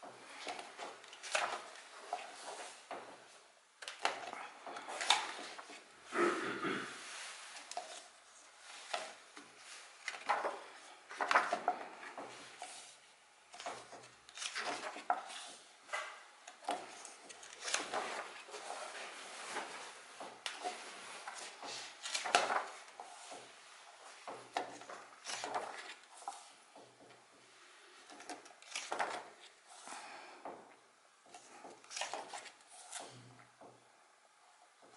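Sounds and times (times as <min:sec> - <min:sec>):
book pages rustling: 0:00.0 - 0:06.0, 0:07.0 - 0:30.6, 0:31.2 - 0:33.8.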